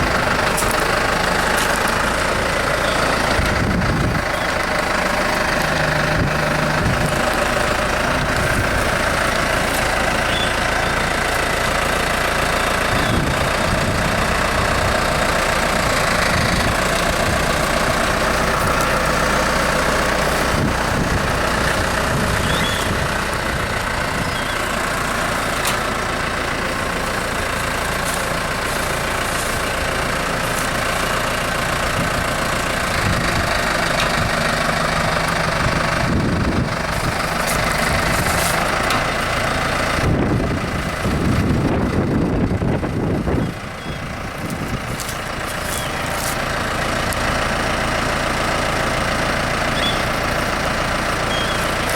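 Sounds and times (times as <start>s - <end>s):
motor running: 0.0s - 51.9s.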